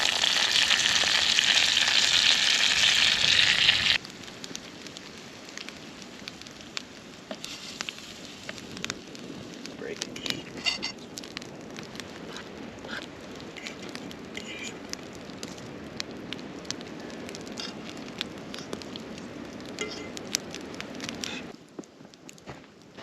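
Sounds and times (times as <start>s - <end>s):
campfire crackling: 0.0s - 23.0s
low rush of flames: 0.0s - 23.0s.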